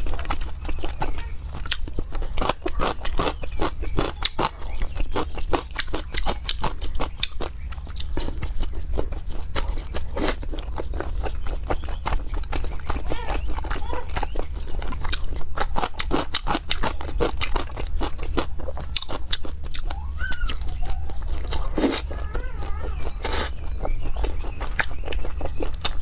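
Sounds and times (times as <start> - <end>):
low steady hum: 0.0 - 26.0
wet chewing and lip-smacking: 0.0 - 26.0.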